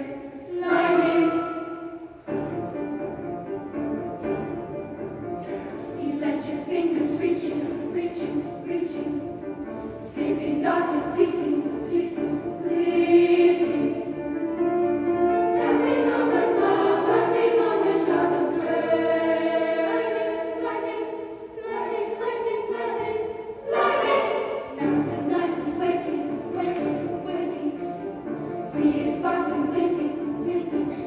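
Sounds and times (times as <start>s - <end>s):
children's choir singing: 0.0s - 2.8s, 4.4s - 31.0s.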